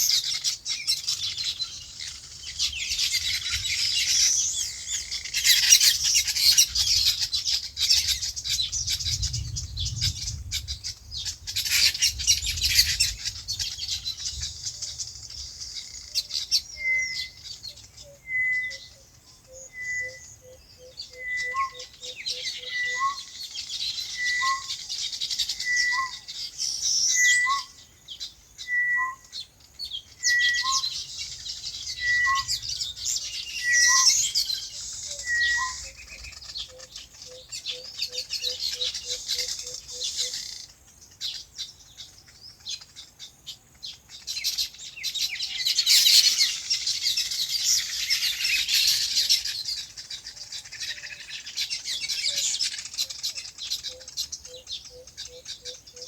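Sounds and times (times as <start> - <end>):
small birds chirping chorus: 0.0 - 56.0.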